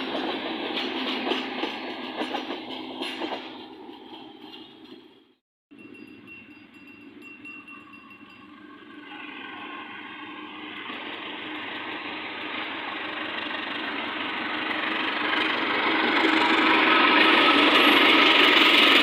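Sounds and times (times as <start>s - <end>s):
diesel train engine running: 0.0s - 19.0s.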